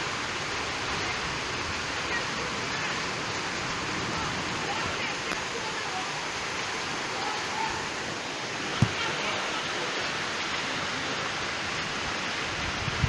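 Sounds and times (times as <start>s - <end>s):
heavy rain rushing: 0.0s - 13.0s.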